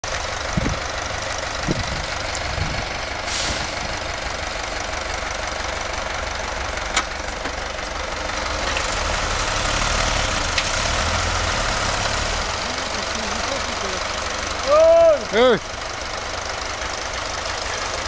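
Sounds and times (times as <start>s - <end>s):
diesel engines running: 0.0s - 18.0s.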